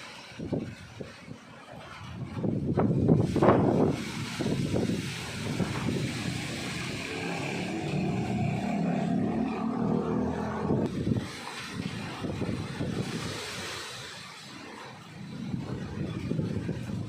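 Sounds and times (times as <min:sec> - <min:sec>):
engine drone: 0:00.0 - 0:17.0
steady rushing noise: 0:00.0 - 0:17.0.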